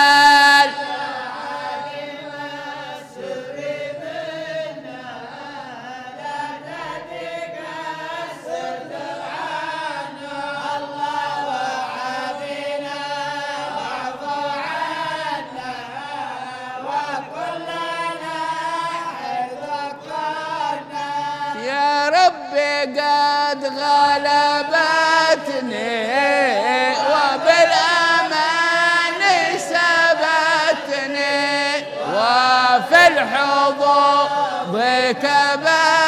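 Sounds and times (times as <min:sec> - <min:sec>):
men chanting without instruments: 0:00.0 - 0:36.0.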